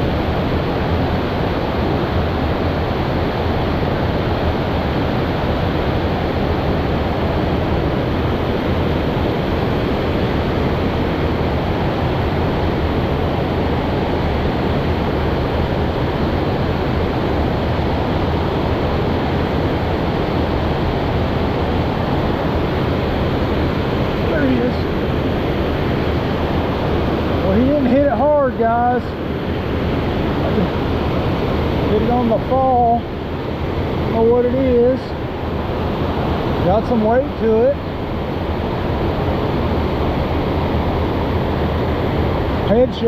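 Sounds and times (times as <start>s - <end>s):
river water rushing over dam: 0.0s - 43.0s.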